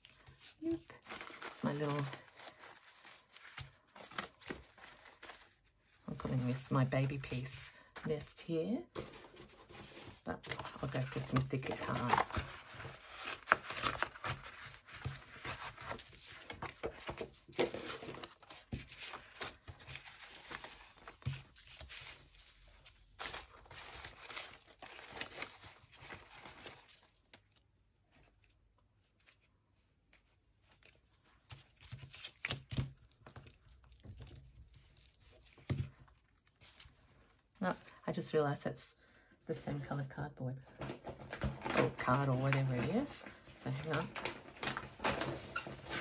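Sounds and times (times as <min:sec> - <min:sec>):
paper and card rustling: 0:00.0 - 0:37.8, 0:40.6 - 0:46.0.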